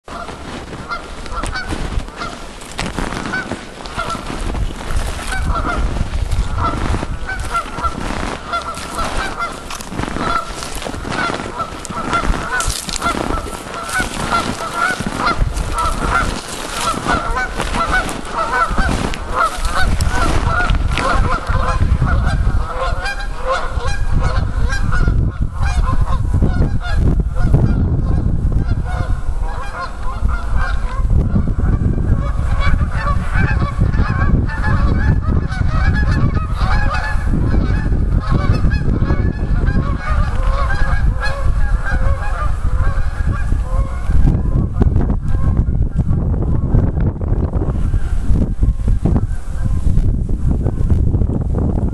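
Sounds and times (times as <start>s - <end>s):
geese honking: 0.1s - 46.9s.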